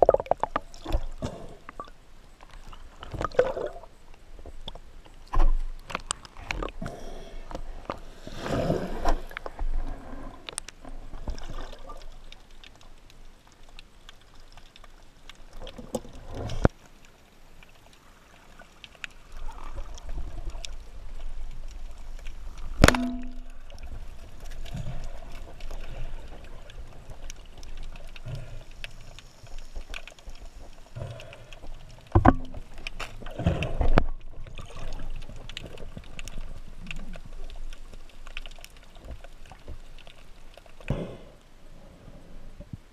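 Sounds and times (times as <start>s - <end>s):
underwater water rushing and sloshing: 0.0s - 42.9s.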